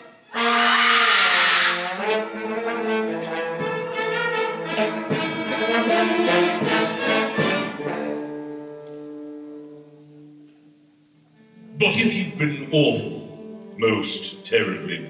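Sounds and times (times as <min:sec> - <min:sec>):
orchestra playing held chords: 0:00.0 - 0:10.7, 0:11.3 - 0:15.0.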